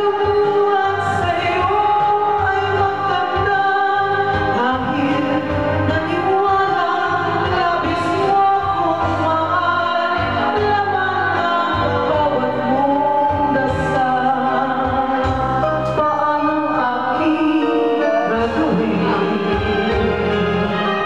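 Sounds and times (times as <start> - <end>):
karaoke backing track: 0.0 - 21.0
person singing a ballad: 0.0 - 21.0.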